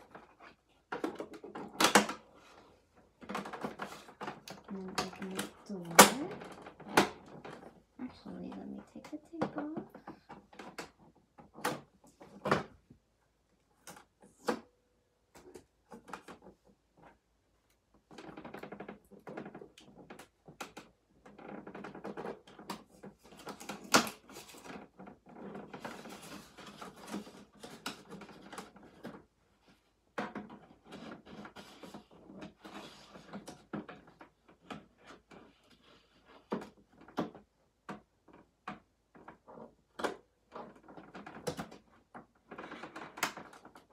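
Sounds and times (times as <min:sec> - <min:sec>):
plastic parts clicking and knocking: 0:00.0 - 0:43.9.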